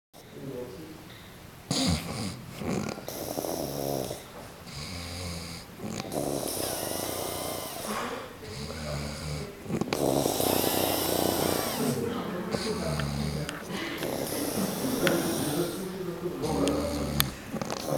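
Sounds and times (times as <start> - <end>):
man snoring heavily: 1.7 - 17.9.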